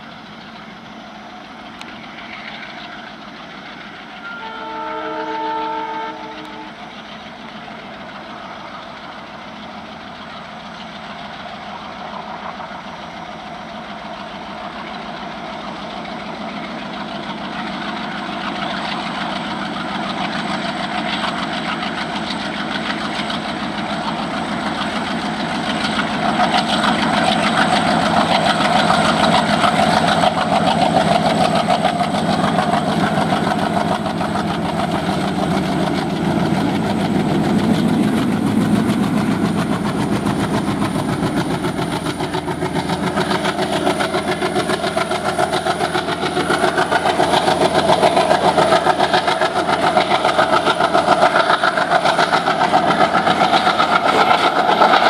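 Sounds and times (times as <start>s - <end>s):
diesel locomotive engines chugging: 0.0s - 55.0s.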